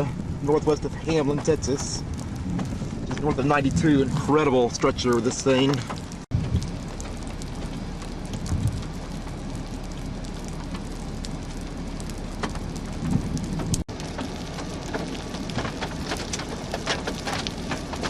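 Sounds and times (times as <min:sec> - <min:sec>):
raindrops ticking on a vehicle: 0:00.0 - 0:18.0
steady rain: 0:00.0 - 0:18.0.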